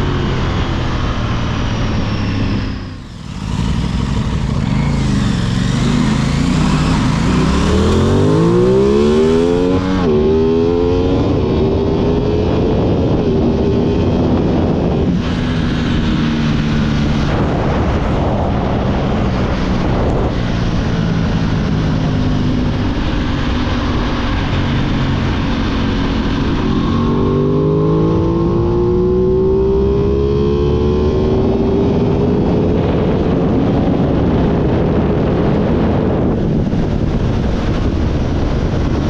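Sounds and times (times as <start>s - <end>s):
motorcycle engine accelerating: 0.0s - 39.0s
wind noise: 0.0s - 39.0s.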